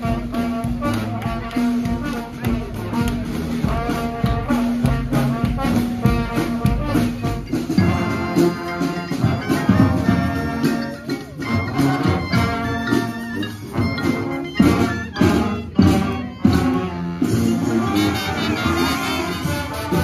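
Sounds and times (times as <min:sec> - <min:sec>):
brass street band playing: 0:00.0 - 0:20.0.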